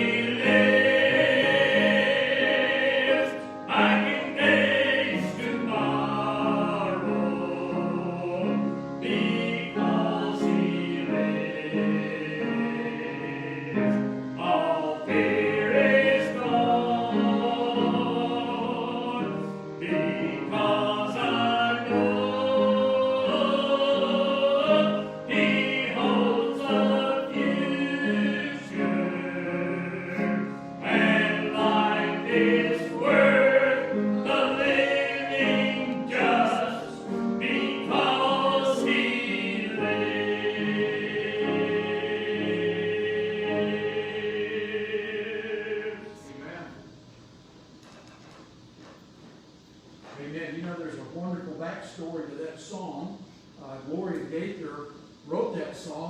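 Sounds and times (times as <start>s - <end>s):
choir singing a hymn: 0.0s - 47.1s.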